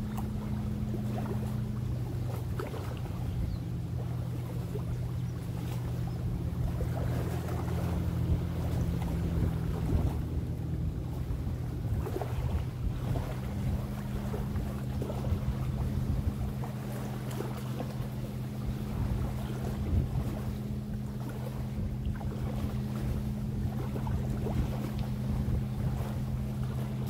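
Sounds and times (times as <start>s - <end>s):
distant engine hum: 0.0s - 27.0s
small waves lapping: 0.0s - 27.0s
wind: 0.0s - 27.0s.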